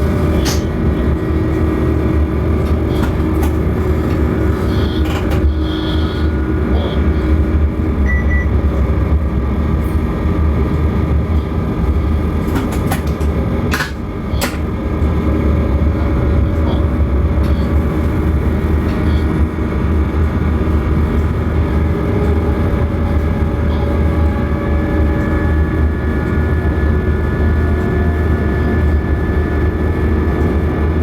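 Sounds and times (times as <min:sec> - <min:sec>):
heavy diesel machinery rumble: 0:00.0 - 0:31.0.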